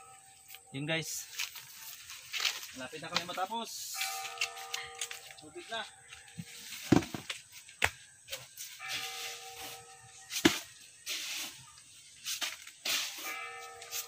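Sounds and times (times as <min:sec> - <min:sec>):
rustling scraping noise: 0:00.5 - 0:05.4, 0:06.2 - 0:07.7, 0:08.4 - 0:14.0.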